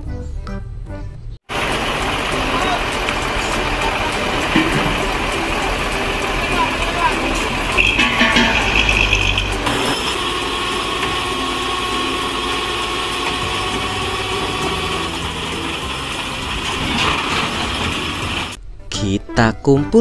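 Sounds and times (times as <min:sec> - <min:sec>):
truck engine idling: 0:01.5 - 0:18.6.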